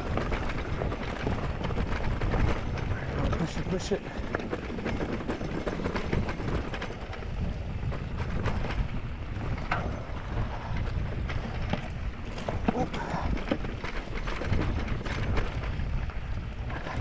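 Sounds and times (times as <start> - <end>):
bike clicks and rattles: 0.0 - 17.0
bike tyres rumbling on dirt: 0.0 - 17.0
wind on microphone: 0.0 - 17.0.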